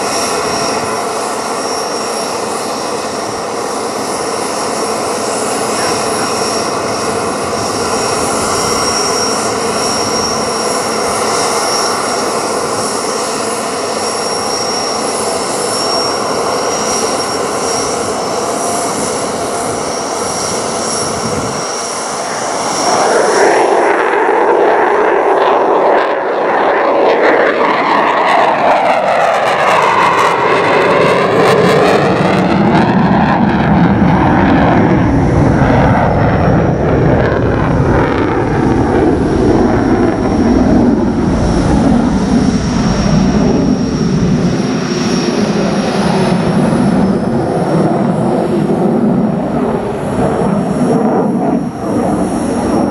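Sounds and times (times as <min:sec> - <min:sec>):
jet engine whine and roar: 0:00.0 - 0:52.9.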